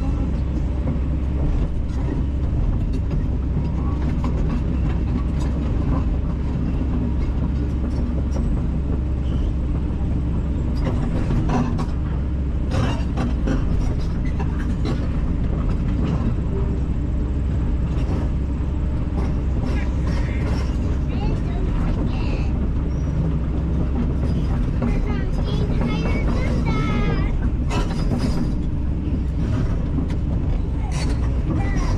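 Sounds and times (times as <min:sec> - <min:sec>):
excavator diesel engine running: 0:00.0 - 0:31.9
clanks and knocks: 0:00.9 - 0:16.8, 0:17.8 - 0:31.9.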